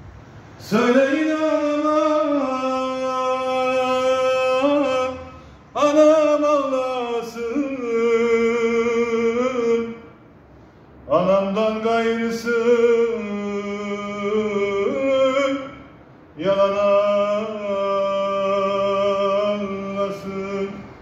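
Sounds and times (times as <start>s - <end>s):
man singing unaccompanied: 0.6s - 10.2s, 11.1s - 21.0s.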